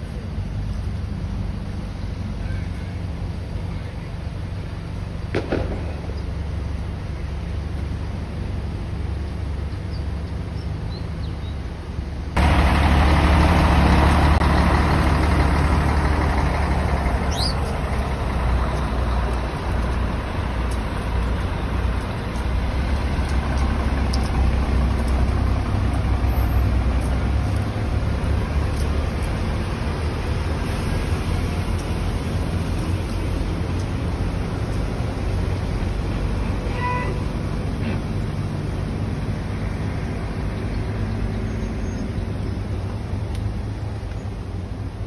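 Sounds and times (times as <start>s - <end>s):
road and wind noise: 0.0s - 45.0s
vehicle engine rumbling: 0.0s - 45.0s.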